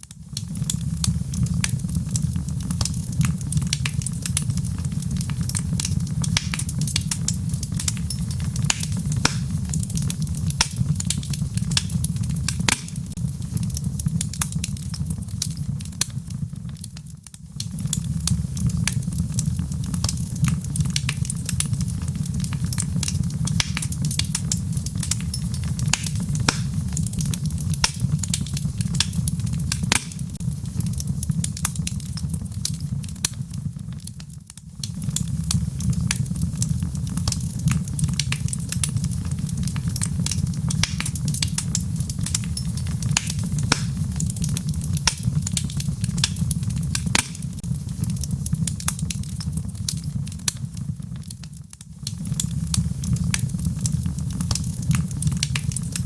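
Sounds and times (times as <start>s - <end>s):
burning logs crackling and popping: 0.0s - 56.0s
fire flames rumbling: 0.0s - 56.0s.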